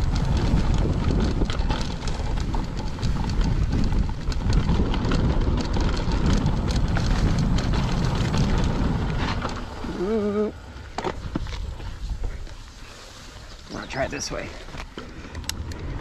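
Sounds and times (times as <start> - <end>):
bike rattling and clicking: 0.0 - 16.0
bike tyres on dirt trail: 0.0 - 16.0.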